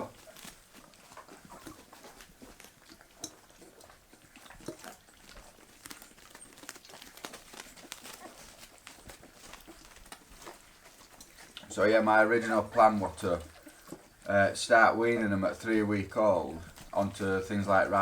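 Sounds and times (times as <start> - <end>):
puppies eating with smacking licks: 0.0 - 18.0.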